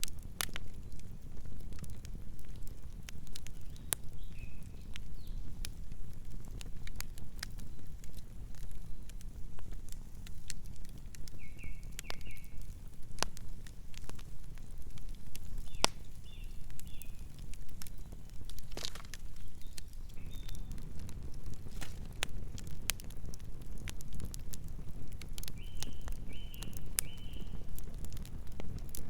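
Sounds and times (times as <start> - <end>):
campfire crackling and popping: 0.0 - 29.0
low rumble of flames: 0.0 - 29.0.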